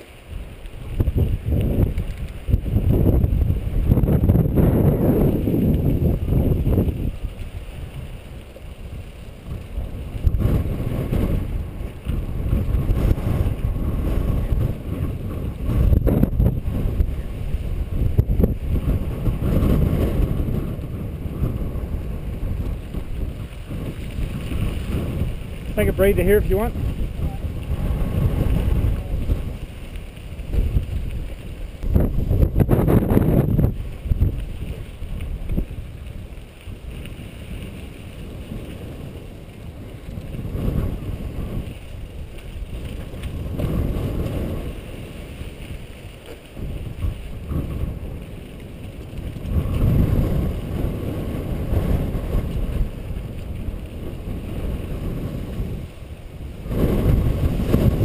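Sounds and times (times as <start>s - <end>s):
tyres rolling over dirt and rock: 0.0s - 58.0s
wind buffeting microphone: 0.0s - 58.0s.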